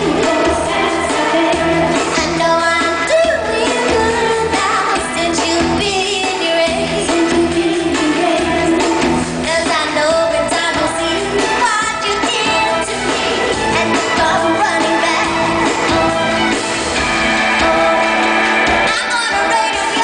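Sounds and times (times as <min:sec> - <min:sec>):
woman singing pop song live: 0:00.0 - 0:16.4, 0:18.7 - 0:20.0
full backing band: 0:00.0 - 0:20.0.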